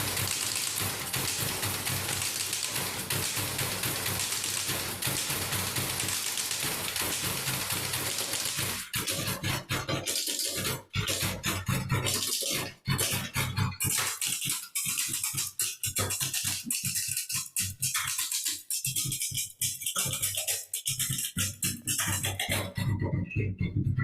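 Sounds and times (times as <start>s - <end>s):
typewriters clacking rhythmically: 0.0s - 22.8s.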